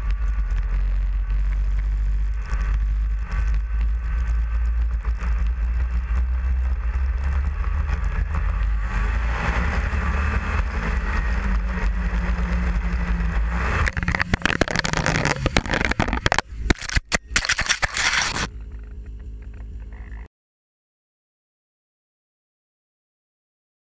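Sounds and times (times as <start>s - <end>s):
harsh crackling and scraping: 0.0s - 20.3s
snowmobile engine running: 0.0s - 20.3s.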